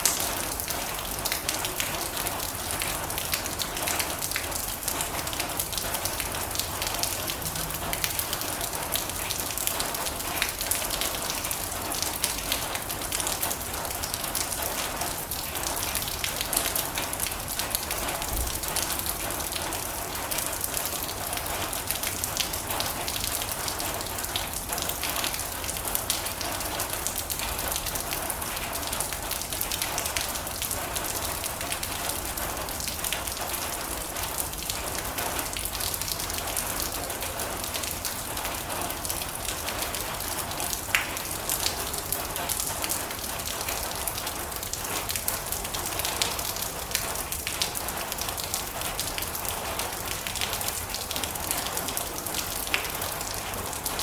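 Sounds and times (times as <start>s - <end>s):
heavy rain on metal roof: 0.0s - 54.0s.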